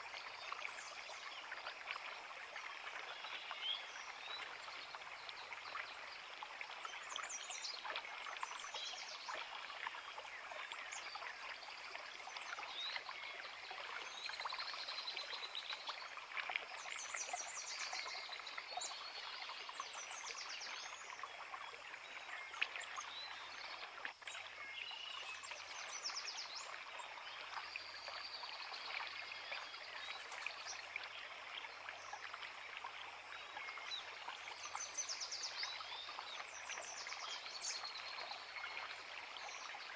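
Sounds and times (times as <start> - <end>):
creek running: 0.0 - 39.9.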